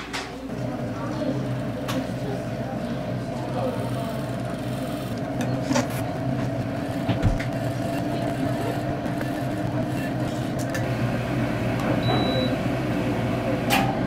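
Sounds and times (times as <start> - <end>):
milk frother whirring: 0.5 - 14.0.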